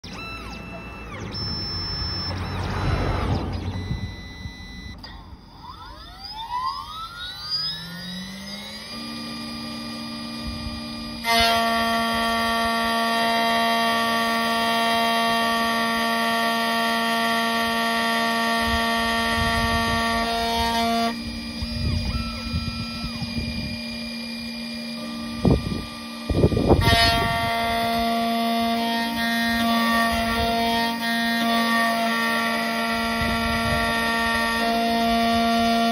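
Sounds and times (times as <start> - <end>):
key-cutting machine motor whining: 0.0 - 35.9.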